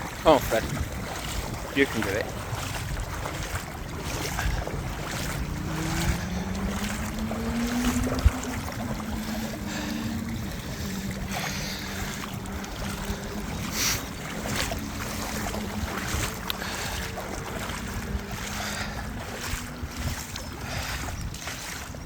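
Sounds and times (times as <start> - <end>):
boots wading through water: 0.0 - 22.0
wind buffeting microphone: 0.0 - 22.0.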